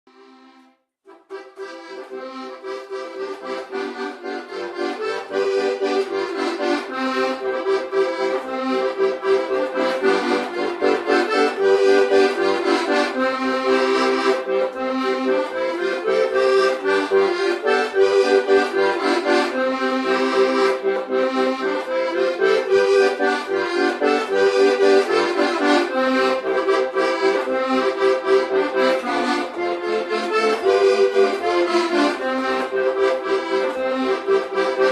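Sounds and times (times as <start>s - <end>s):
accordion playing lively tune: 0.1s - 34.9s.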